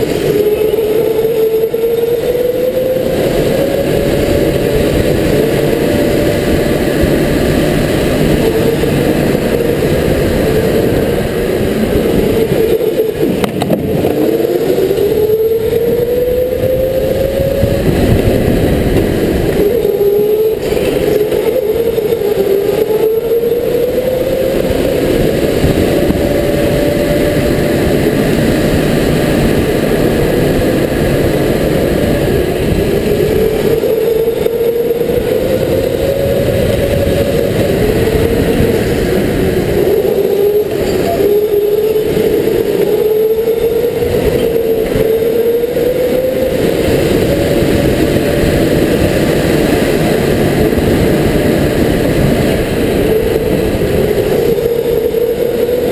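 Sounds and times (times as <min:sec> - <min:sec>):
electric motor whine: 0:00.0 - 0:55.9
loud rushing noise: 0:00.0 - 0:55.9.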